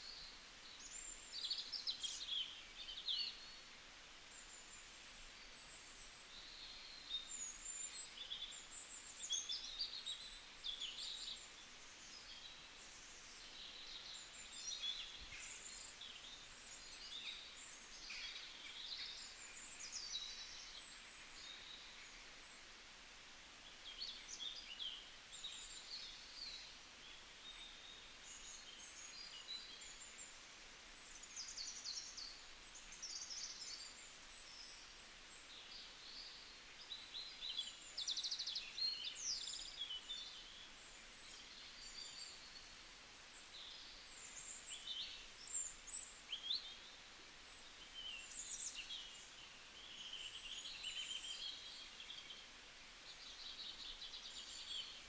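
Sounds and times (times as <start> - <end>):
faint forest hiss: 0.0 - 55.0
songbirds chirping: 0.0 - 55.0.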